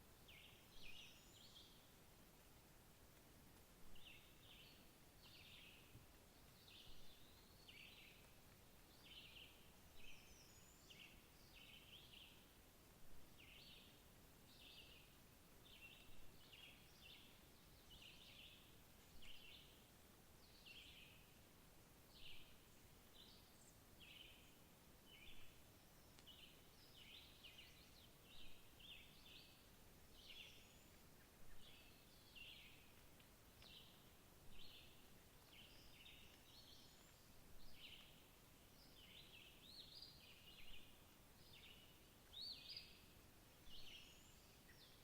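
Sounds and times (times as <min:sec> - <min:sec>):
steady background hiss: 0:00.0 - 0:45.0
faint bird chirping: 0:00.2 - 0:02.0, 0:03.9 - 0:12.6, 0:13.2 - 0:45.0.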